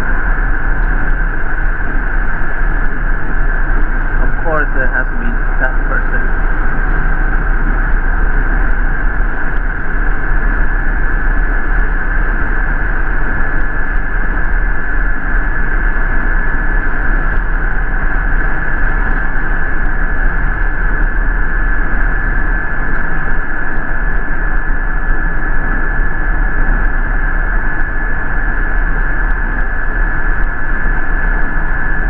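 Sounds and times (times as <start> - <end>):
bus engine and road rumble: 0.0 - 32.0
thin high whine: 0.0 - 32.0.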